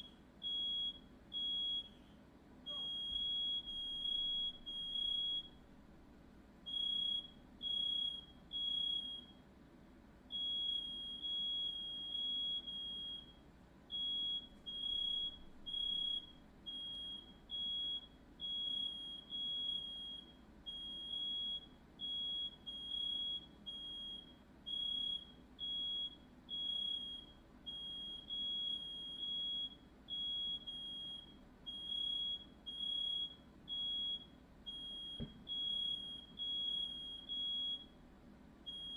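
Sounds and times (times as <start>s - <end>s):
smoke alarm beeping: 0.0s - 2.0s, 2.7s - 5.6s, 6.7s - 9.4s, 10.3s - 38.0s, 38.7s - 38.9s.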